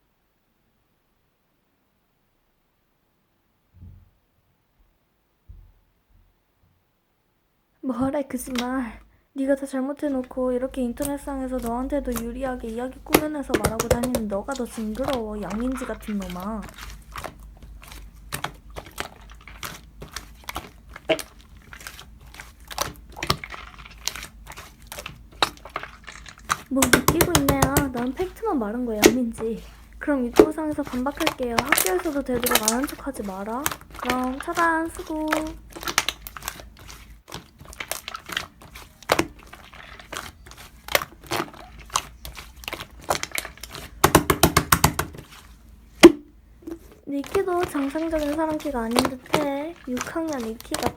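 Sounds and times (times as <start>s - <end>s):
slime squishing by hand: 7.9s - 9.0s, 9.6s - 50.9s.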